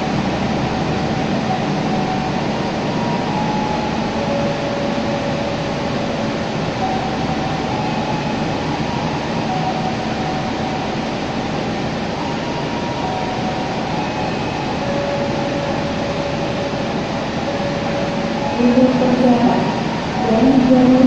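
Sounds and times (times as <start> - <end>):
train coaches rolling past: 0.0 - 21.0.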